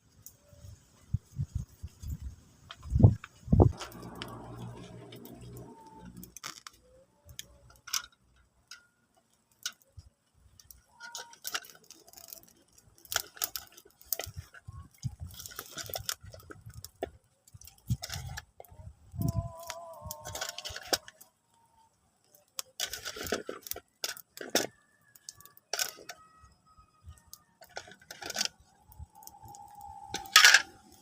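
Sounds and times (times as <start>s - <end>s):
small hard objects clinking: 3.6s - 18.6s, 19.2s - 31.0s.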